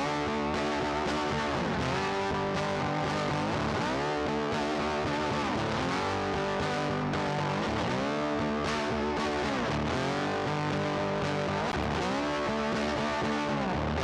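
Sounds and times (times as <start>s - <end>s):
distorted electric guitar music: 0.0s - 14.0s.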